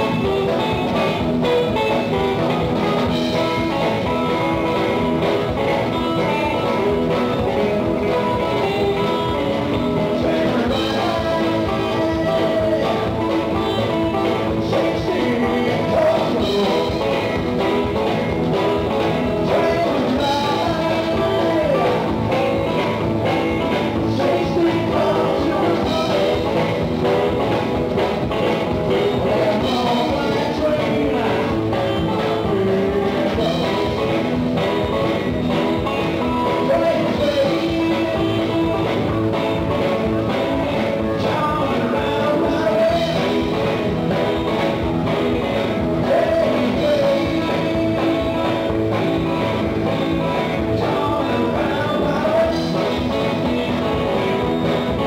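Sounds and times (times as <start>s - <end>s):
drums beating: 0.0s - 55.0s
electric guitar: 0.0s - 55.0s
live rock and roll band playing: 0.0s - 55.0s.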